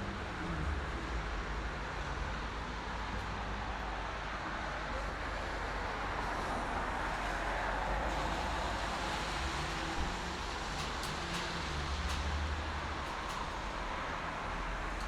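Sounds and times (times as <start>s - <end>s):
tyre noise of passing vehicles: 0.0s - 15.0s.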